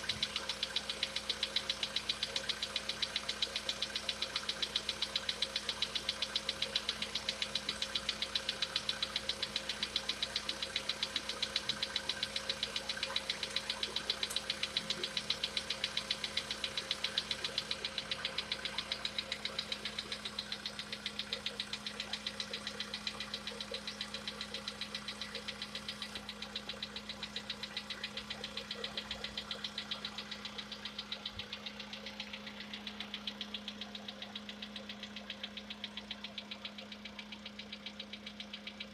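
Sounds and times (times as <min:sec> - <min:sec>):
car engine idling with knocking: 0:00.0 - 0:38.9.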